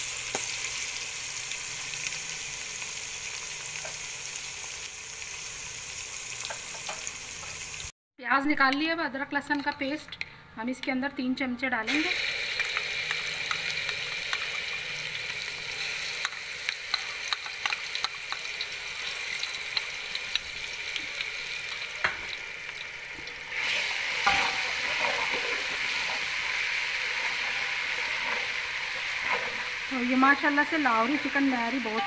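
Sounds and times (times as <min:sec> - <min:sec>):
paste sizzling in hot oil: 0:00.0 - 0:07.9, 0:11.9 - 0:32.0.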